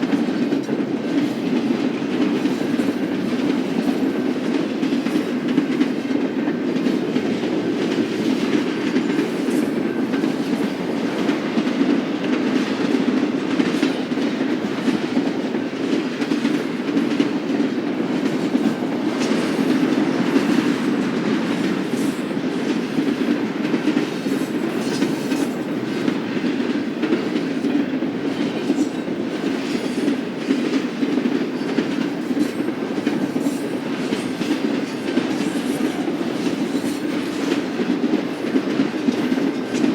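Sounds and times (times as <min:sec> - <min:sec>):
freight train wheels rumbling on rail: 0:00.0 - 0:39.9
clicking over rail joints: 0:00.1 - 0:39.9.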